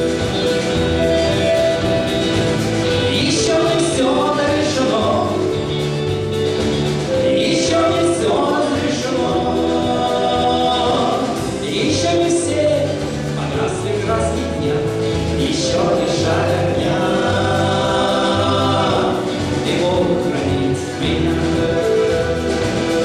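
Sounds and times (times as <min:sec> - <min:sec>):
musical accompaniment: 0:00.0 - 0:23.0
voices singing together: 0:00.0 - 0:23.0.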